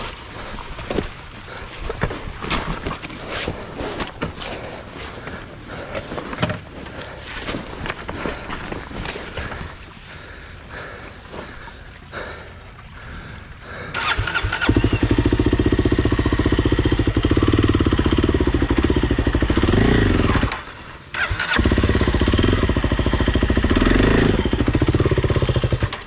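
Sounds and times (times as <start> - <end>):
dirt bike engine idling: 0.0 - 26.0.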